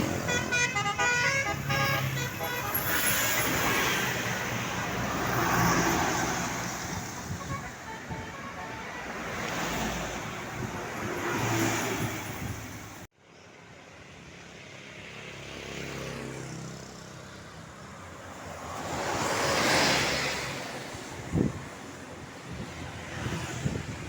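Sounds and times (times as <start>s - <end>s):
road vehicles passing: 0.0s - 24.0s.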